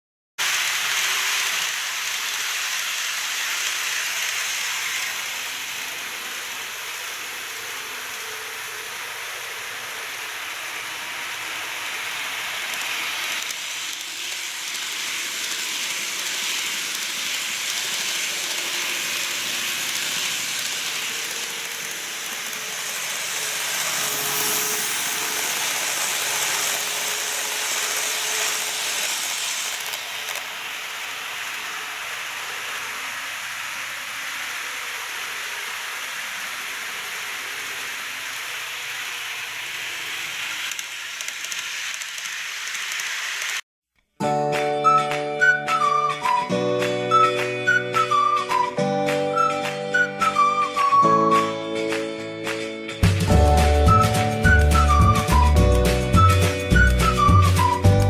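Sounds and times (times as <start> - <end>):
model train wheels rolling on rails: 0.4 - 43.6, 44.8 - 52.1, 53.0 - 58.0.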